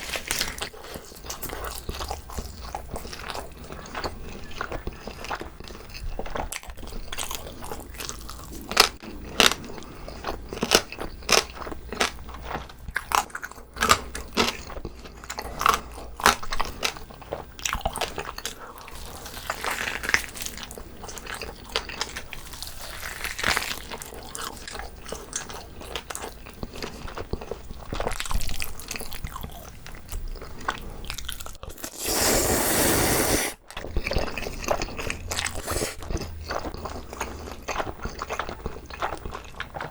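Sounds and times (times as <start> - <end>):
wet chewing and lip smacks: 0.0 - 32.1, 33.6 - 39.9.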